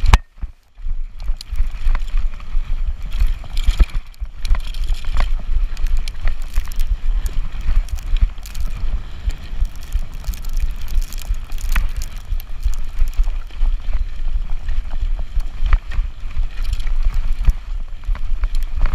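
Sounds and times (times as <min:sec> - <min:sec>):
bike rattling over bumps: 0:00.0 - 0:18.9
wind buffeting microphone: 0:00.0 - 0:18.9.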